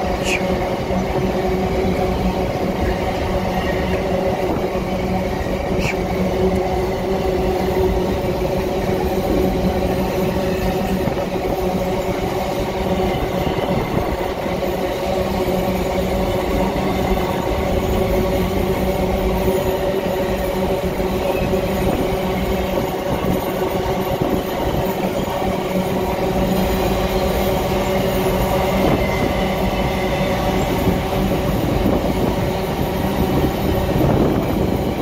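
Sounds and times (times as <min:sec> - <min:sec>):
steel wheels running on rails: 0:00.0 - 0:35.0.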